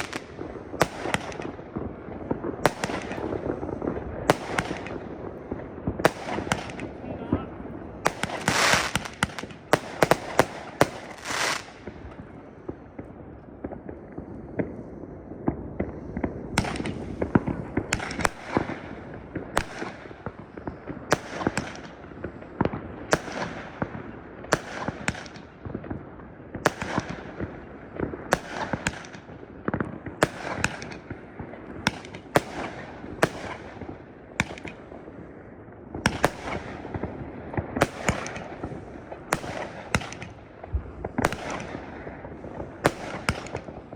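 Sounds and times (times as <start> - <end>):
distant explosions rumble: 0.0 - 43.9
fireworks bangs: 0.0 - 43.9.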